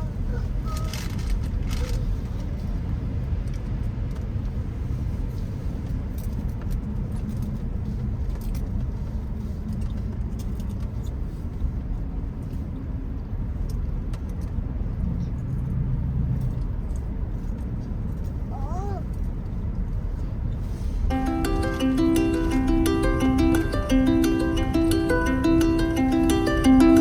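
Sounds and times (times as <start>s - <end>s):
car driving rumble: 0.0s - 27.0s.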